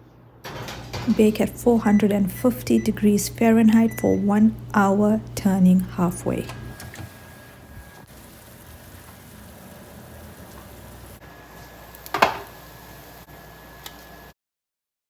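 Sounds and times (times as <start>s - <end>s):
faint steady hum: 0.9s - 14.1s.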